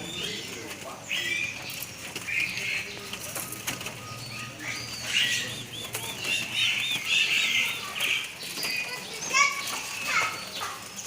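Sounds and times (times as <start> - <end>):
scattered clicks: 0.0 - 10.6
songbirds chirping: 0.0 - 11.0.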